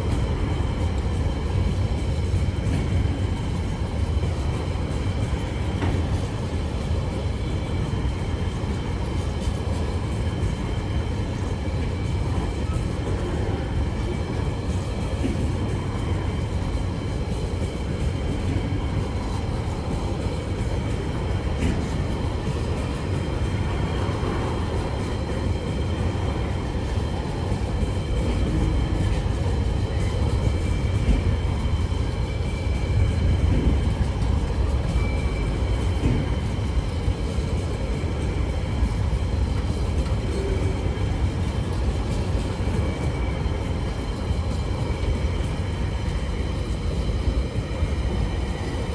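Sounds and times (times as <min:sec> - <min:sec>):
freight wagons rolling on rails: 0:00.0 - 0:48.9.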